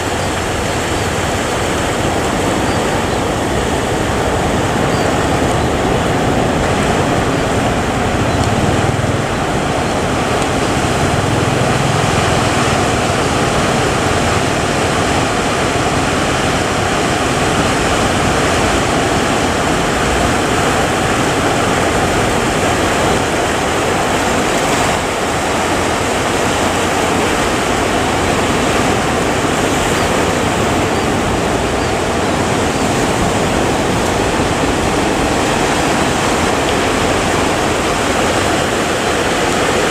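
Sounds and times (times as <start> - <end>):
rough sea waves: 0.0 - 39.9
wind: 0.0 - 39.9.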